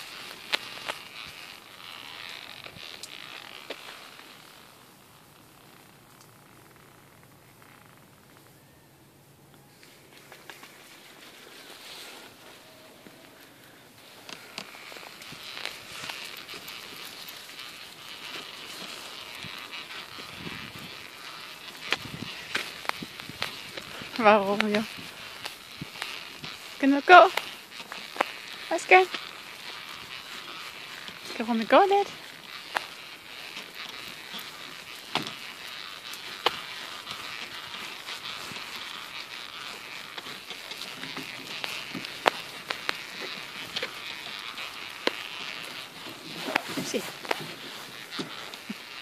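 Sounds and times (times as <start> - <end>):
small clicks and crunches: 0.0 - 8.6, 9.5 - 49.0
pram wheels rolling on pavement: 0.0 - 49.0.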